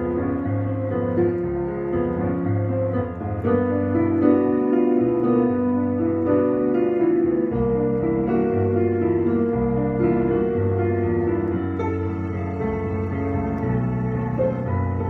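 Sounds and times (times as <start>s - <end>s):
keyboard bass line: 0.0s - 15.0s
keyboard chords: 0.0s - 15.0s.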